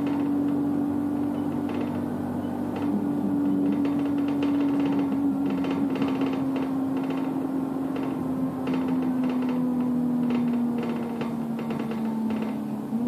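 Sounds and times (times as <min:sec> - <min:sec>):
bus drivetrain whine: 0:00.0 - 0:13.0
bus engine rumble: 0:00.0 - 0:13.0
light rattling ticks: 0:00.0 - 0:13.0.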